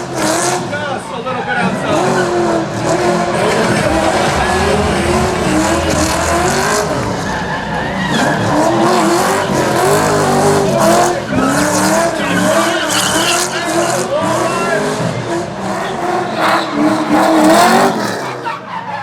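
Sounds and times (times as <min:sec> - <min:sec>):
car engine revving: 0:01.4 - 0:18.9.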